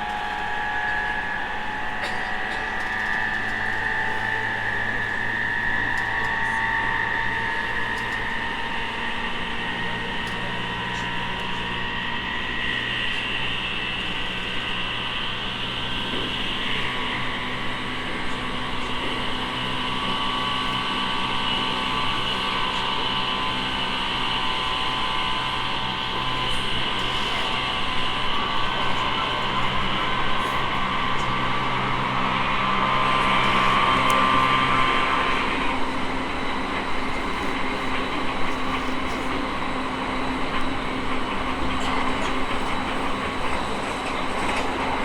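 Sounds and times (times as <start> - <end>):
electric train motor whine: 0.0 - 45.0
low train rumble: 0.0 - 45.0.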